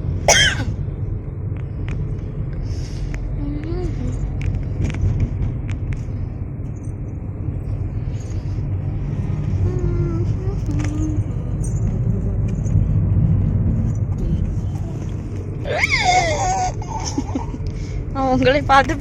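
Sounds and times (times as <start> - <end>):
road rumble inside moving car: 0.0 - 19.0.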